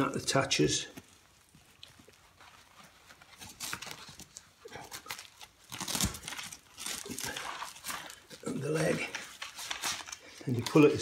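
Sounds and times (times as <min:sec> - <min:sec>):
velcro and fabric rustling: 0:00.0 - 0:11.0.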